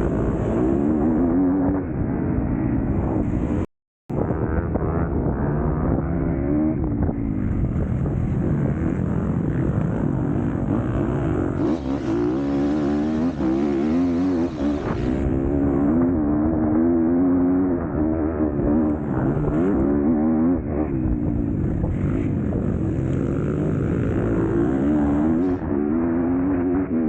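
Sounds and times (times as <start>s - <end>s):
motocross bike engine revving: 4.3s - 27.0s.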